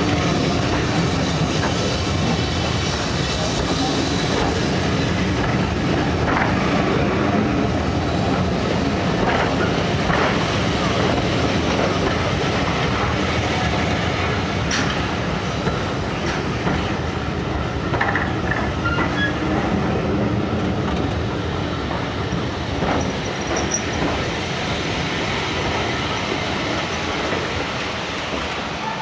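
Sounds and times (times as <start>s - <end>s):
train wheels clattering over rail joints: 0.1s - 7.0s, 8.3s - 19.7s, 20.6s - 28.5s.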